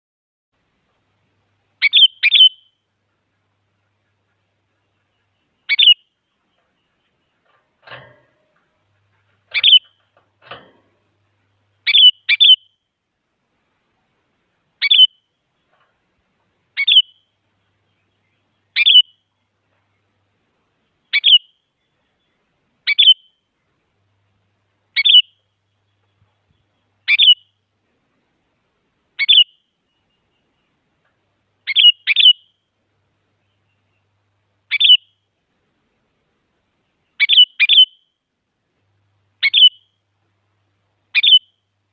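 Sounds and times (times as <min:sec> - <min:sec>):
bird chirping calls: 0:01.5 - 0:12.9, 0:13.9 - 0:28.4, 0:29.1 - 0:35.4, 0:36.6 - 0:38.2, 0:39.2 - 0:40.1, 0:40.9 - 0:41.8.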